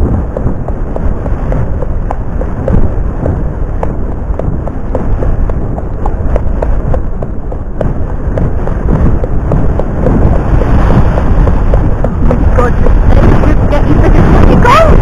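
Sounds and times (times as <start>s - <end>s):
horse hoofbeats: 0.0s - 15.0s
wind buffeting microphone: 0.0s - 15.0s.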